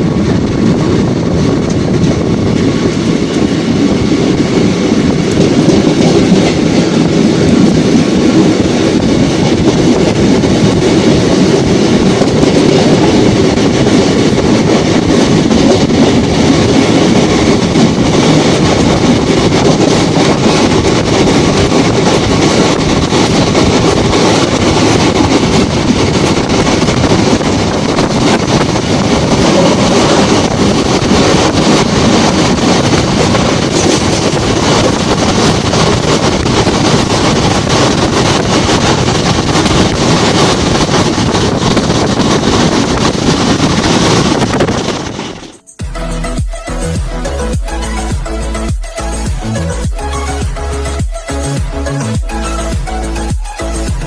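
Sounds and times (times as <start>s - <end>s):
rushing air: 0.0s - 54.0s
train wheels rumbling on rails: 0.0s - 54.0s.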